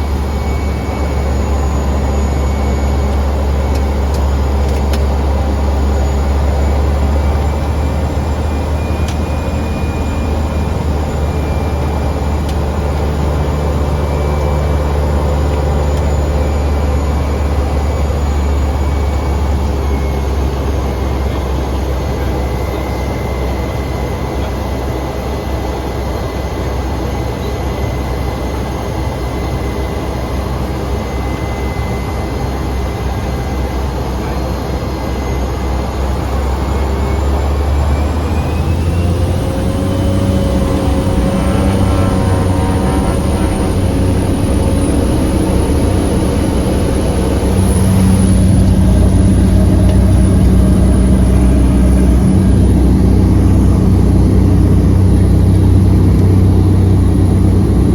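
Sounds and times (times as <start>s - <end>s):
rising engine whine: 0.0s - 57.9s
turboprop engine and propeller: 0.0s - 57.9s.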